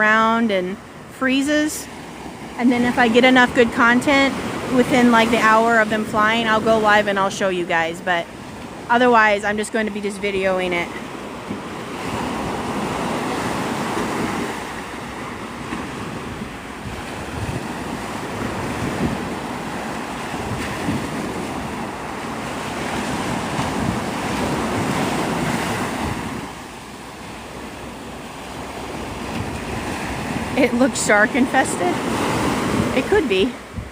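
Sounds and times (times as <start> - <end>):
surf breaking on beach: 0.0 - 33.9
wind buffeting microphone: 0.0 - 33.9.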